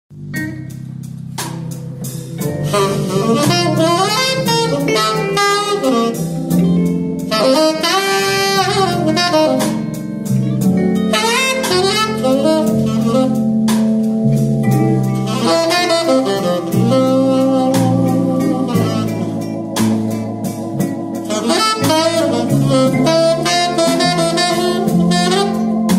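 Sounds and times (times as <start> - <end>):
live band playing: 0.1 - 25.9
saxophone jazzy melody: 0.2 - 25.9.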